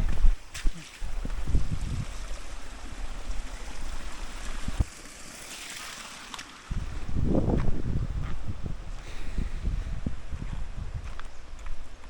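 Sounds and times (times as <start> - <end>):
wind buffeting microphone: 0.0 - 4.9, 6.7 - 12.0.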